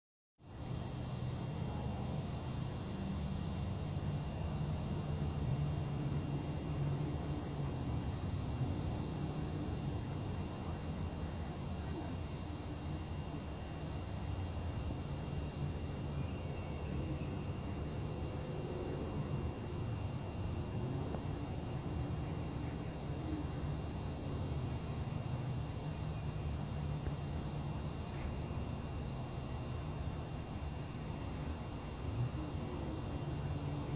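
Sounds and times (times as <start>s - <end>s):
crickets chirping: 0.4s - 33.9s.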